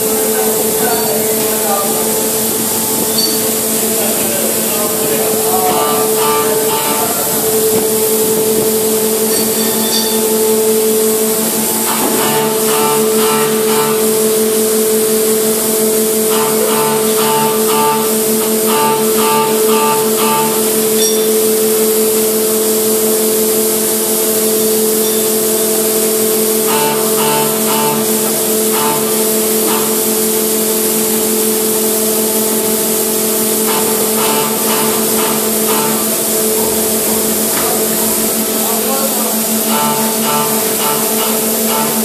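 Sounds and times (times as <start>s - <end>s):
hydraulic machinery hum and hiss: 0.0s - 42.0s.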